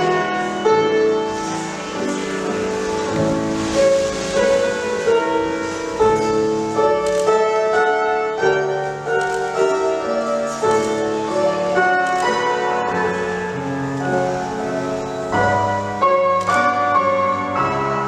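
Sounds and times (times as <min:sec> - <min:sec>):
classical piano music: 0:00.0 - 0:18.0.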